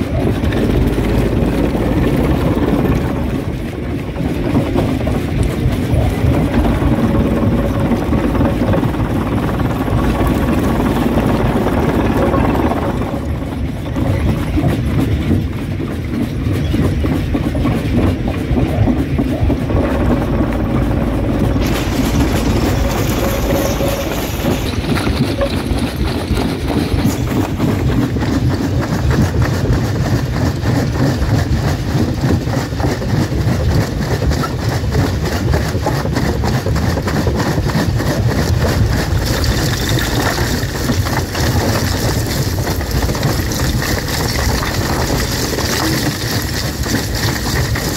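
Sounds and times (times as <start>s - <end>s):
rock crusher rumbling: 0.0s - 47.9s
rock rattling and grinding: 0.0s - 47.9s.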